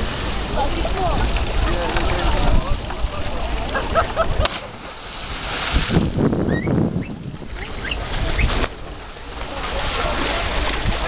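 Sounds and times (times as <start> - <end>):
water splash: 0.0 - 11.0.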